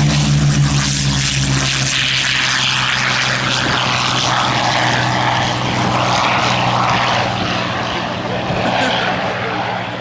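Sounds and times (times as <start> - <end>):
propeller plane engine drone: 0.0 - 10.0.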